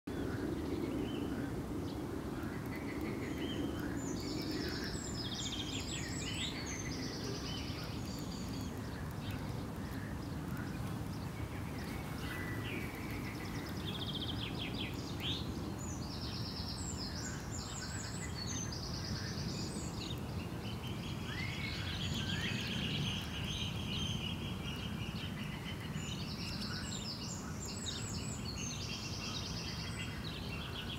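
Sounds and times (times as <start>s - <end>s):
songbirds singing: 0.1s - 30.9s.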